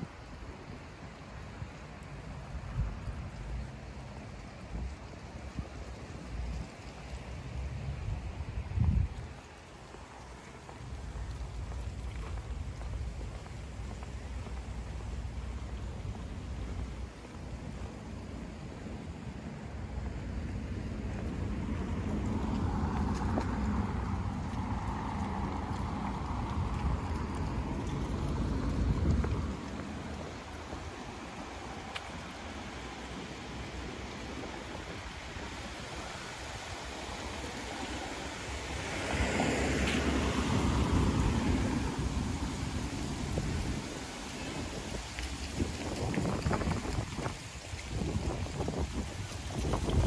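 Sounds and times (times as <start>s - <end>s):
wind buffeting microphone: 0.0s - 50.0s
car passing: 2.0s - 50.0s.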